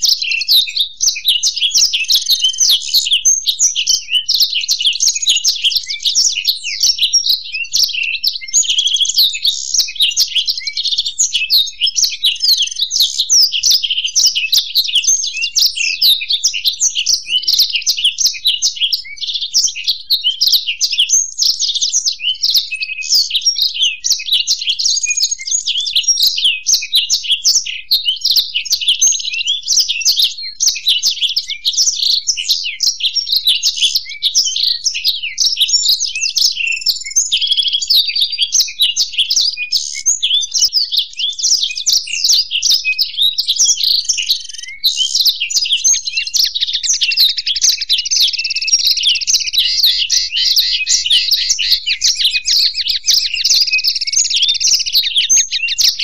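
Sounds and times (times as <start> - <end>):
birds twittering and trilling: 0.0 - 56.0.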